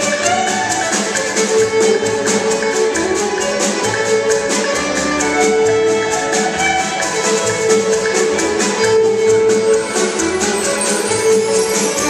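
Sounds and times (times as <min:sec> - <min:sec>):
solo fiddle playing fast reel: 0:00.0 - 0:12.0
string orchestra: 0:00.0 - 0:12.0.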